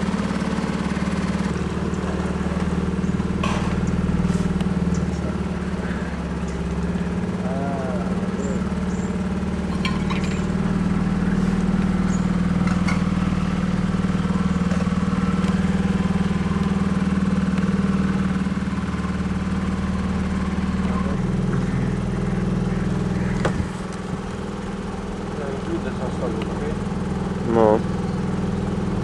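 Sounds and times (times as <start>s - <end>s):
motorboat engine humming: 0.0s - 29.0s.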